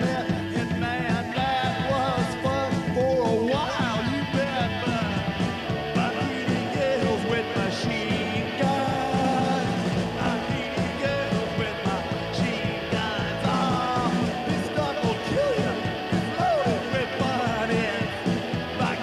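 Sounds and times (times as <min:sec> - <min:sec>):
bass: 0:00.0 - 0:19.0
drums with steady beat: 0:00.0 - 0:19.0
electric guitar: 0:00.0 - 0:19.0
man singing: 0:00.0 - 0:19.0.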